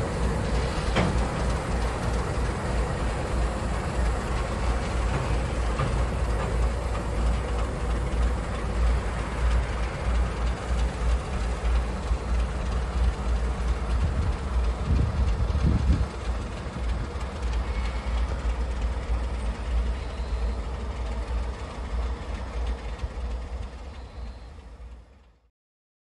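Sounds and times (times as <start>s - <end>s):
diesel locomotives running: 0.0s - 25.5s.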